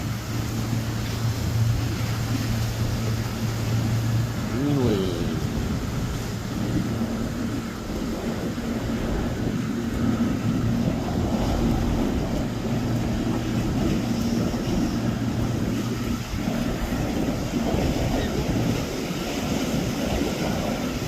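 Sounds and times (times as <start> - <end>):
motorboat engine drone: 0.0 - 21.0
wind buffeting microphone: 0.0 - 21.0.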